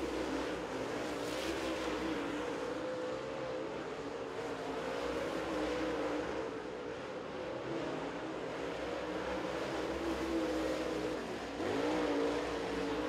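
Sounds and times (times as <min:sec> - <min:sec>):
race car engine at speed: 0:00.0 - 0:13.0.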